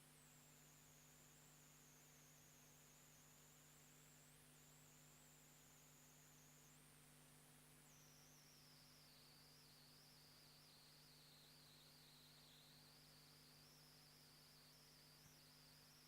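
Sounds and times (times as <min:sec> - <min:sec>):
faint electrical hum: 0:00.0 - 0:16.0
faint high whine: 0:00.0 - 0:16.0.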